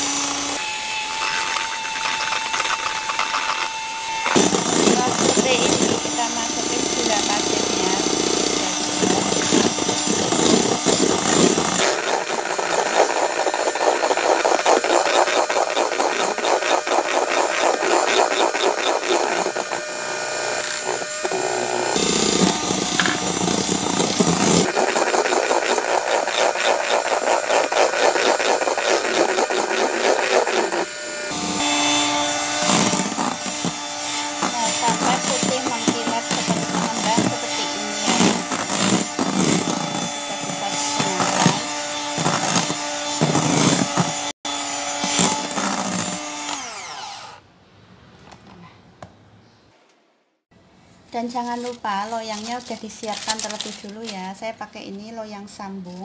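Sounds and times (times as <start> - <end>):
electric hand mixer whisking: 0.0 - 47.4.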